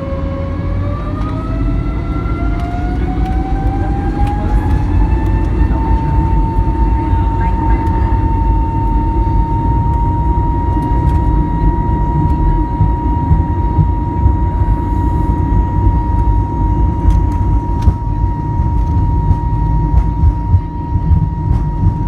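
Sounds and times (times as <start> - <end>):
jet engine high whine: 0.0 - 22.0
jet engine low rumble: 0.0 - 22.0.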